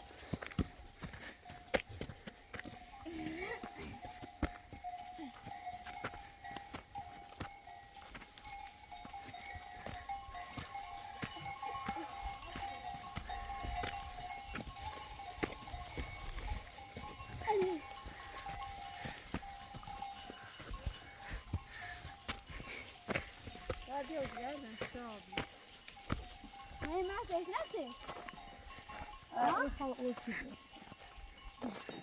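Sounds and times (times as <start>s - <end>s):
livestock bell ringing: 0.0s - 32.0s
steps on the ground: 0.0s - 32.0s.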